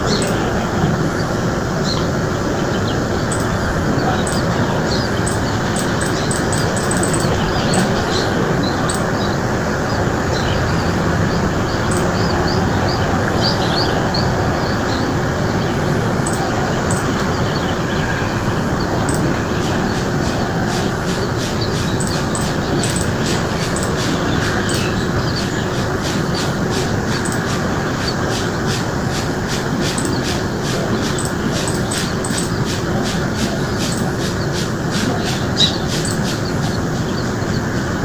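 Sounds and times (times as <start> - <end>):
birds chirping: 0.0 - 38.0
loud steady rushing noise: 0.0 - 38.0.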